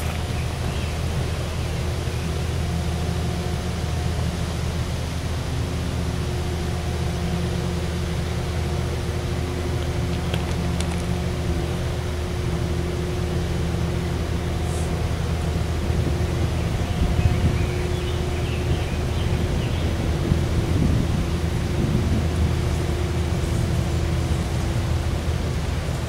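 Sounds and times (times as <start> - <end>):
engine idling hum: 0.0 - 26.0
faint steady tones: 0.0 - 26.0.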